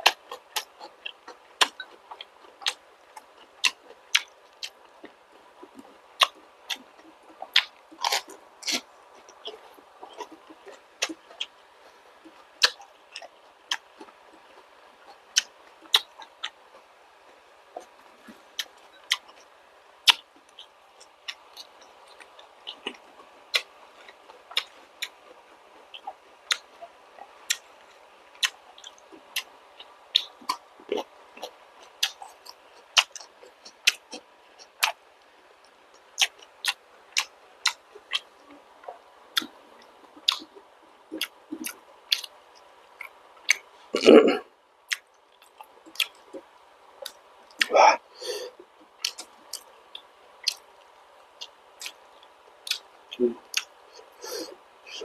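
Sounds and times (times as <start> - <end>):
wet chewing mouth clicks: 0.0 - 11.6, 12.2 - 16.8, 20.1 - 26.8, 28.4 - 35.0, 36.2 - 40.5, 41.1 - 43.7, 44.9 - 47.7, 49.0 - 50.7, 51.4 - 55.0.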